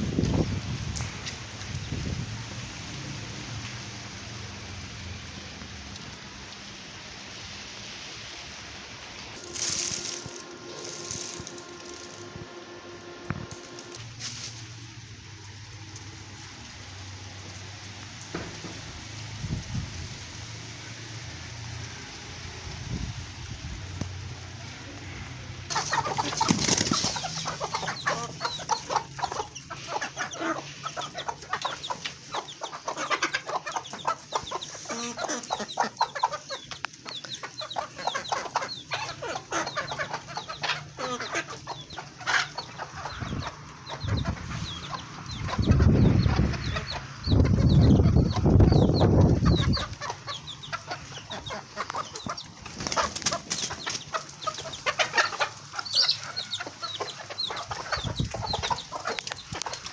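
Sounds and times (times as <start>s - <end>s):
chickens clucking: 8.9s - 19.6s, 20.8s - 59.9s.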